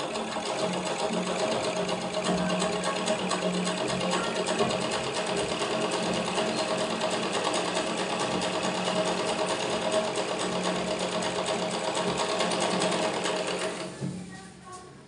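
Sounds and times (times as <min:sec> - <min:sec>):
overlock sewing machine clatter: 0:00.0 - 0:14.0.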